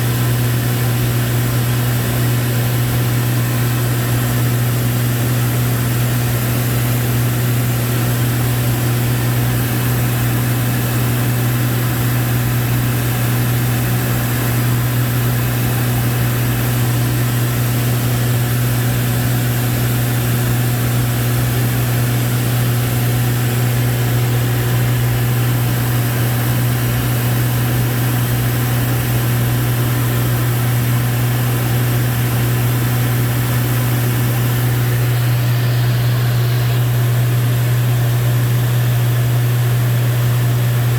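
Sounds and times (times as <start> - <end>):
aircraft engine droning: 0.0 - 40.9.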